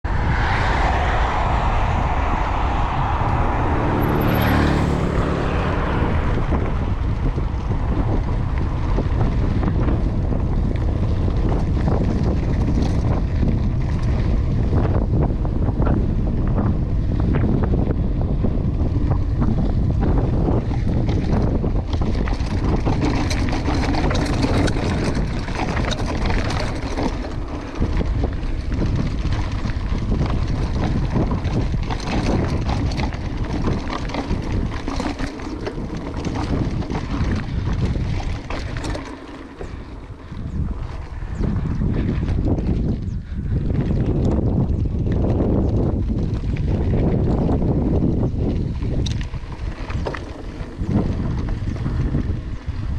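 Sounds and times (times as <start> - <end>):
wind buffeting microphone: 0.0 - 52.9
bike tyres clattering on rough ground: 6.2 - 52.9.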